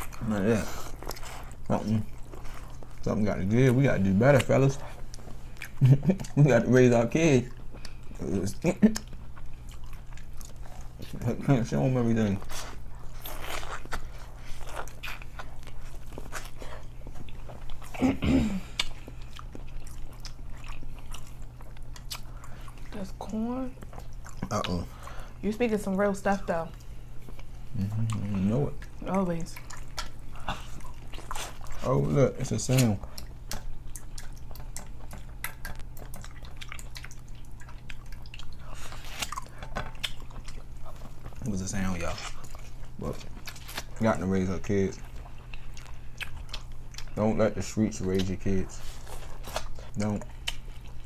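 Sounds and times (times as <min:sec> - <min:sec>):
wet chewing and lip-smacking: 0:00.0 - 0:18.0, 0:18.6 - 0:51.0.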